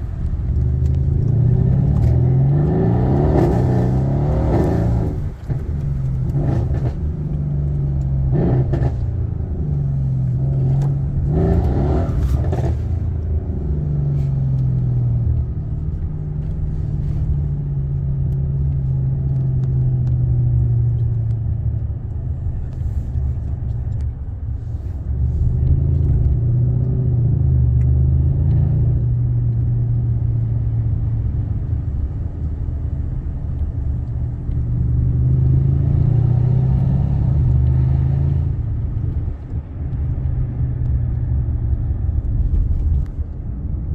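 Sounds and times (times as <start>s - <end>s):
car engine rumbling: 0.0s - 43.9s.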